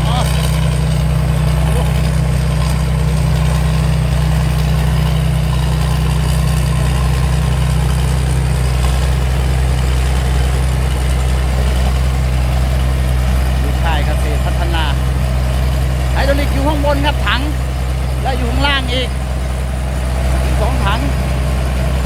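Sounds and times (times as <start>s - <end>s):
combine harvester engine droning: 0.0s - 22.0s
machinery noise: 0.0s - 22.0s.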